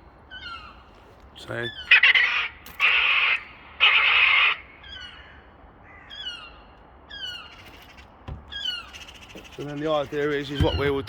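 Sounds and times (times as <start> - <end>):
crows cawing: 0.0 - 11.0
gull calls: 0.3 - 11.0.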